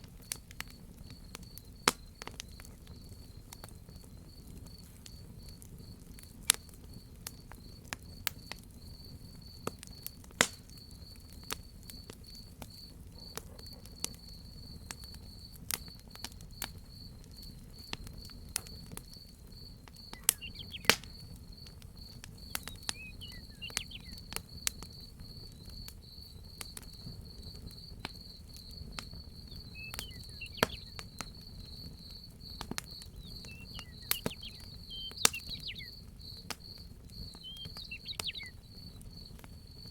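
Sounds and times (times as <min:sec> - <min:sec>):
crackling wood fire with pops: 0:00.0 - 0:39.9
crickets chirping: 0:00.0 - 0:39.9.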